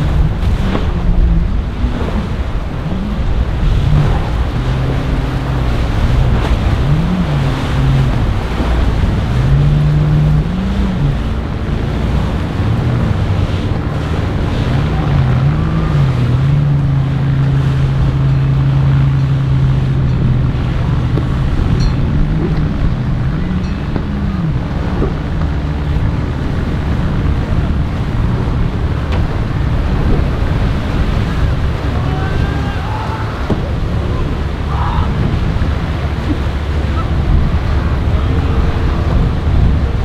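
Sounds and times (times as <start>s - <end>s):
boat engines running hard: 0.0s - 40.0s
water rushing and splashing: 0.0s - 40.0s.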